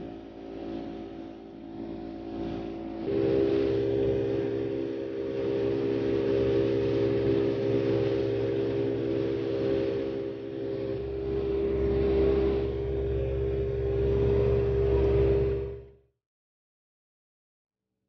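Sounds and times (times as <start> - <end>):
water rushing along hull: 0.0 - 15.8
motorboat engine running: 0.0 - 16.0.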